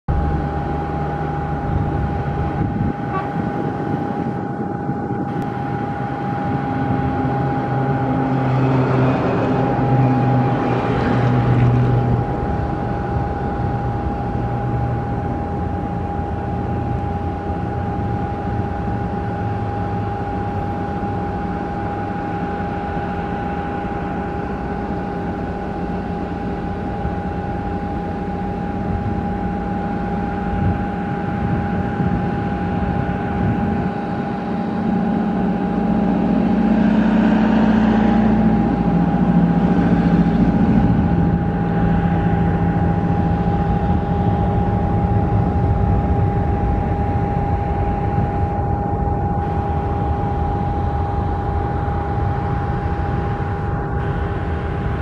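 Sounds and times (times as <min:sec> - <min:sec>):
constant high engine tone: 0:00.0 - 0:55.0
jet engines rumbling: 0:00.1 - 0:55.0.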